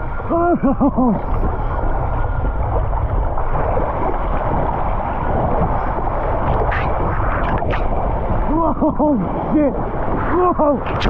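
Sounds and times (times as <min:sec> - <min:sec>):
running water rushing: 0:00.0 - 0:11.0
wind buffeting the microphone: 0:00.0 - 0:11.0.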